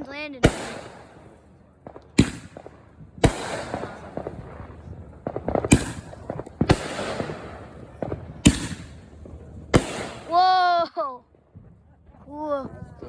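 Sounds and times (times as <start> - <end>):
fireworks bangs: 0.0 - 13.0
fireworks crackling and pops: 0.0 - 13.0.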